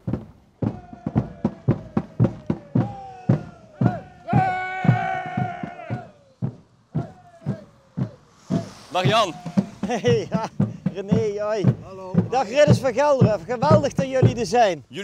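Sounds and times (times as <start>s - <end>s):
marching drums beating: 0.0s - 14.8s.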